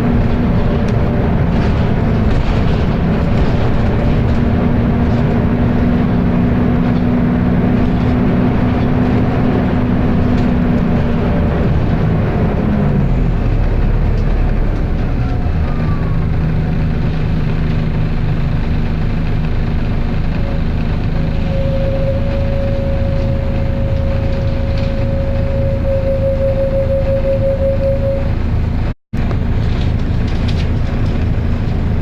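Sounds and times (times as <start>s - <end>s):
diesel engine hum: 0.0s - 32.0s
loud cooling fan rushing: 0.0s - 32.0s.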